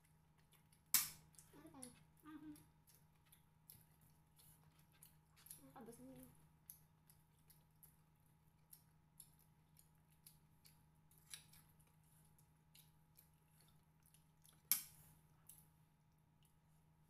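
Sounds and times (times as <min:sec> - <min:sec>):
people eating by hand: 0:00.0 - 0:16.7.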